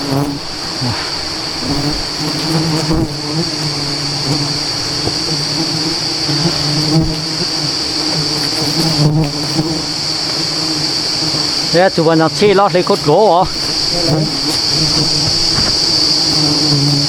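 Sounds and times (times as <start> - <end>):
high-pitched insect whine: 0.0 - 17.0
honeybees humming: 0.0 - 17.0.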